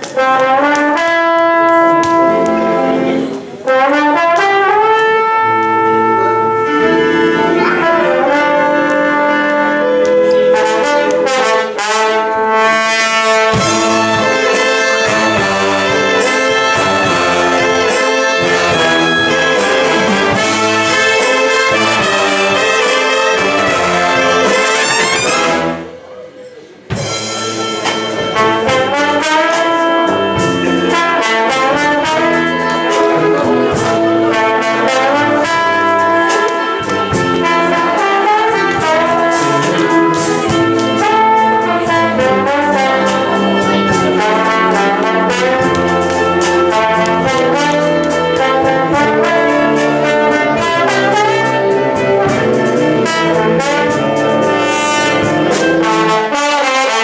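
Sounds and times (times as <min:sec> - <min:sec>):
wind band playing: 0:00.0 - 0:26.1, 0:26.9 - 0:57.0
tuba bass line: 0:00.2 - 0:26.0, 0:27.0 - 0:57.0.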